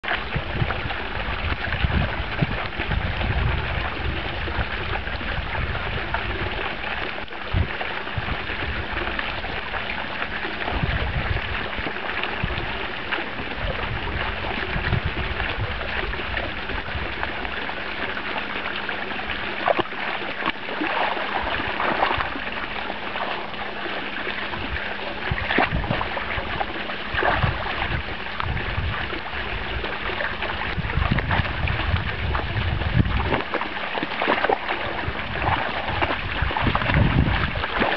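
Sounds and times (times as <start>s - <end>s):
wind rumble on microphone: 0.0s - 17.8s, 20.8s - 37.9s
fountain jet splashing: 0.0s - 37.9s.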